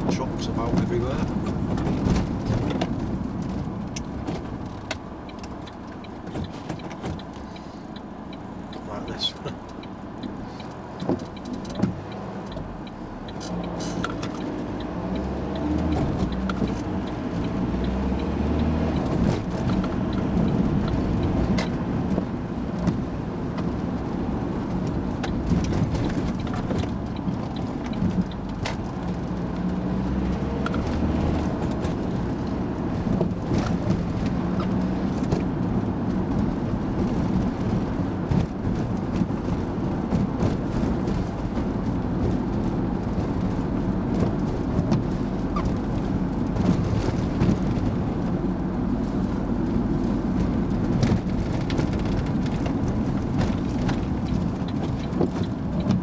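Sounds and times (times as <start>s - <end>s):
bus engine: 0.0s - 56.0s
road noise: 0.0s - 56.0s.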